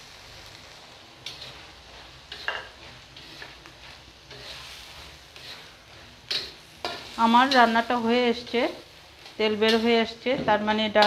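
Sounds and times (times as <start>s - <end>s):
frying sizzle: 0.0s - 11.0s
spatula scraping metal wok: 1.2s - 11.0s.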